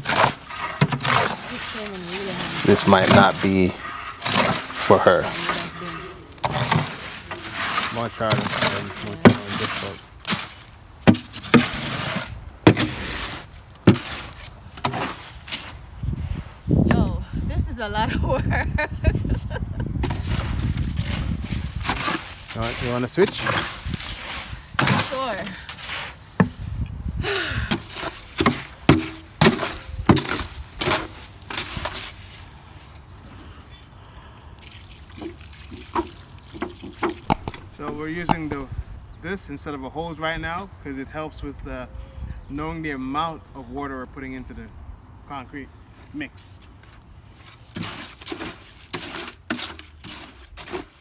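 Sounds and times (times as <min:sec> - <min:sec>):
gritty scraping through concrete: 0:00.0 - 0:18.1, 0:18.8 - 0:40.6, 0:45.8 - 0:51.0.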